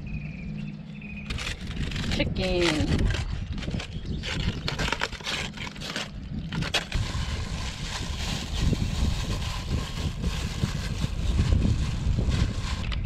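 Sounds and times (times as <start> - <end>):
wind buffeting microphone: 0.0 - 13.0
foil and plastic crinkling: 1.3 - 13.0.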